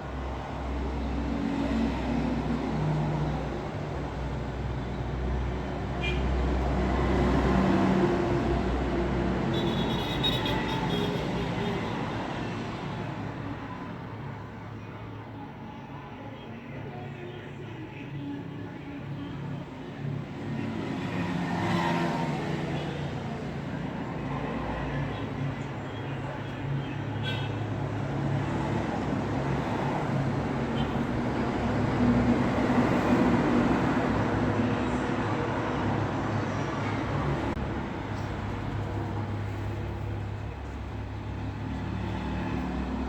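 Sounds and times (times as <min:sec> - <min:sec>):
road traffic rumble: 0:00.0 - 0:43.0
vehicles passing: 0:00.0 - 0:43.0.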